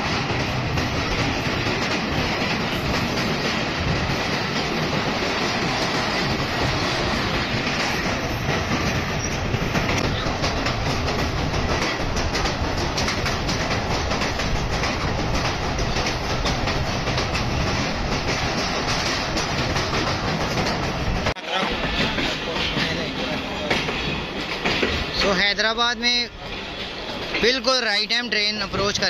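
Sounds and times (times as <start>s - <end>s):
train wheels rumbling on rails: 0.0s - 29.0s
wheels clicking over rail joints: 0.0s - 29.0s.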